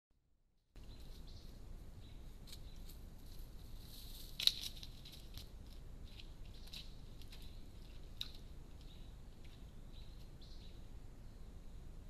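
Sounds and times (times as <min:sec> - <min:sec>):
low steady hum: 0:00.2 - 0:12.0.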